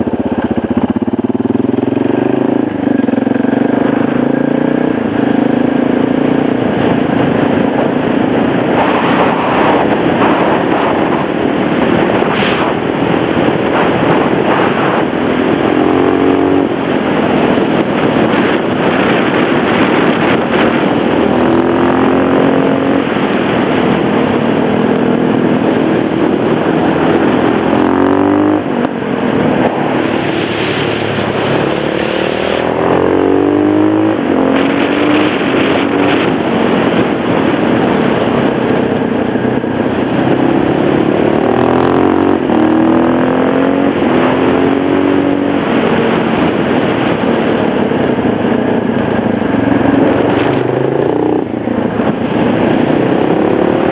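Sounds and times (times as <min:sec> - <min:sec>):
motorcycle engine revving: 0:00.0 - 0:53.9
wind and road noise: 0:00.0 - 0:53.9.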